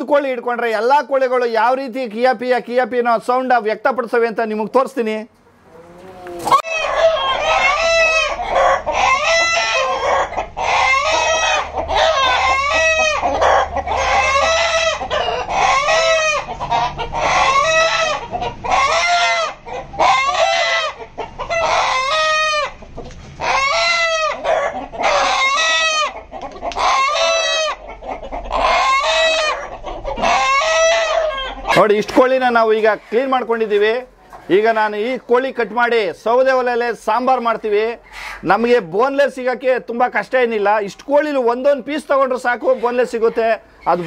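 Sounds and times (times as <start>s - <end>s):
chickens squawking: 0.0s - 44.0s.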